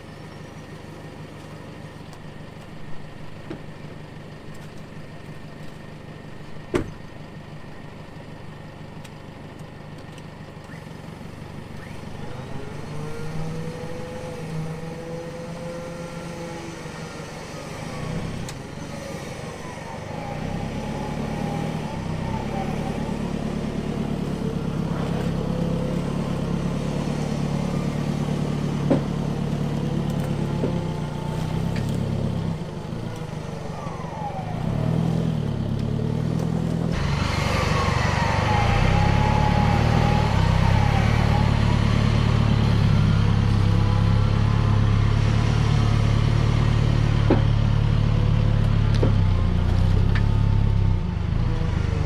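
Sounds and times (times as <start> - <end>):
diesel engine under load: 0.0 - 52.0.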